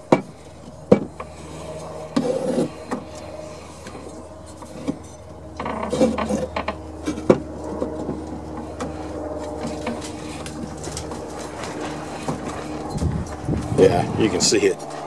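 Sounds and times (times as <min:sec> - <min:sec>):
wood scraping on metal: 0:00.3 - 0:15.0.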